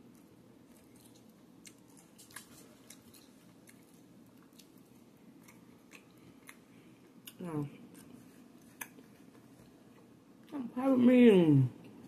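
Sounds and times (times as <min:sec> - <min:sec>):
faint chewing: 0:00.0 - 0:10.6
low room hum: 0:00.0 - 0:12.0.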